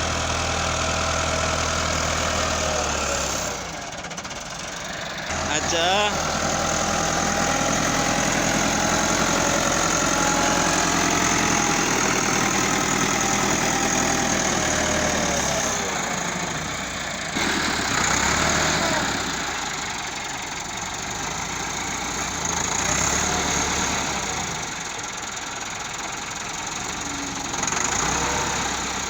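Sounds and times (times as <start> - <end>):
diesel machinery engine running: 0.0 - 29.0.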